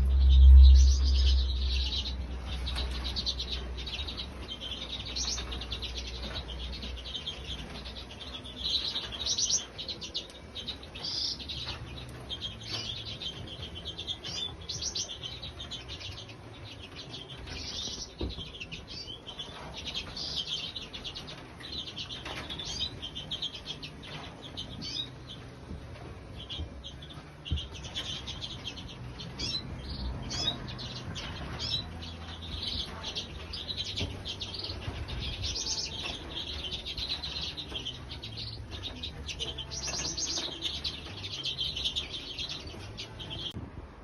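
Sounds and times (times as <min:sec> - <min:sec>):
cage birds chirping and singing: 0:00.0 - 0:44.0
low steady hum: 0:00.0 - 0:44.0.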